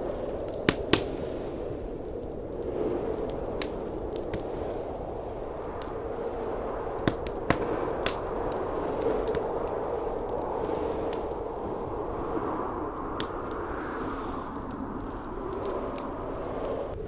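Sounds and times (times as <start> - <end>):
blizzard wind rushing: 0.0 - 17.0
wood fire crackling: 0.0 - 17.0.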